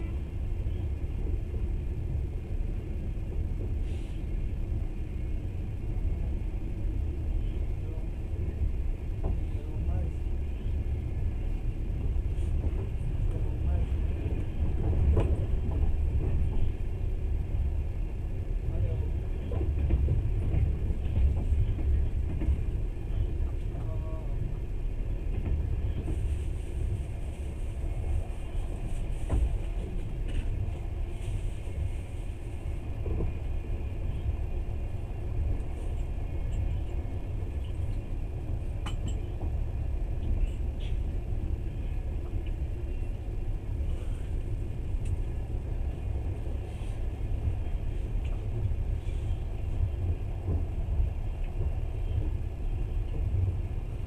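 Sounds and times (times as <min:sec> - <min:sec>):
train rumble inside carriage: 0:00.0 - 0:54.0.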